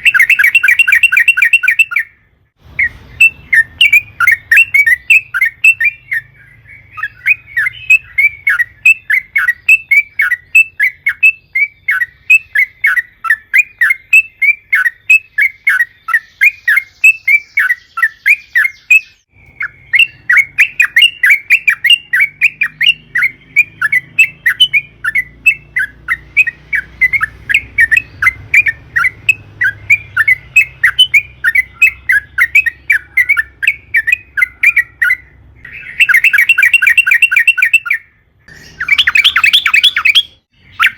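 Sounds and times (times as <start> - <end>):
bird singing chattering notes: 0.0 - 40.9.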